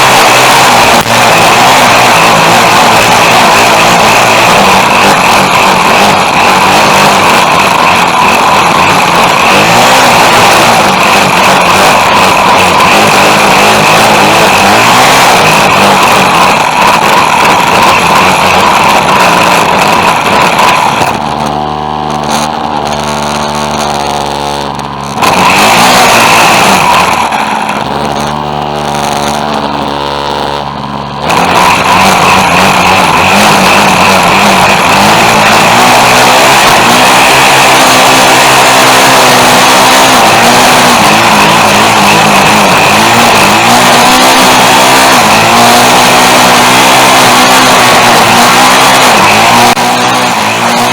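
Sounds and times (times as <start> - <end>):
string trimmer engine whining: 0.0 - 50.9.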